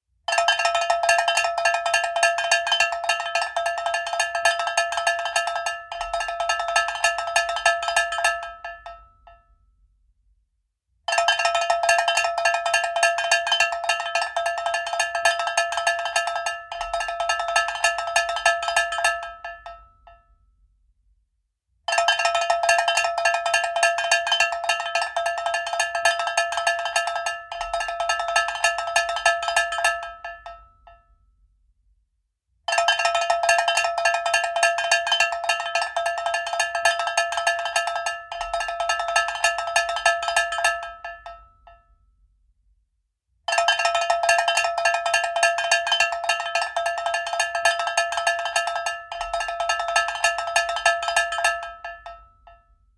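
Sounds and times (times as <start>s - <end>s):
cowbell rung rapidly: 0.3s - 9.0s, 11.1s - 19.8s, 21.9s - 30.5s, 32.7s - 41.4s, 43.5s - 52.2s.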